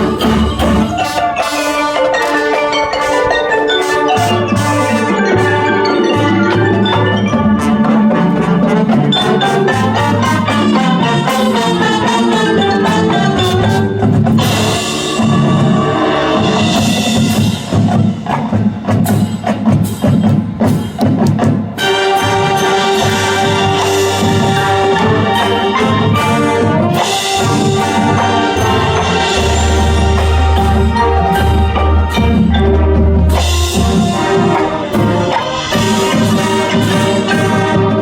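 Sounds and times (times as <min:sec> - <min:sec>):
marching band playing: 0:00.0 - 0:38.0
marimbas and mallet percussion: 0:00.0 - 0:38.0
sharp choppy percussion hits: 0:00.0 - 0:38.0.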